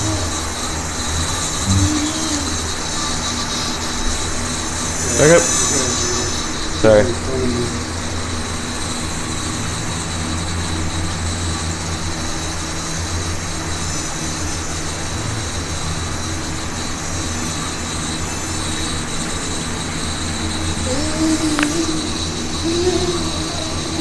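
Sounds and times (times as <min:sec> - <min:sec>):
drone propellers whirring: 0:00.0 - 0:24.0.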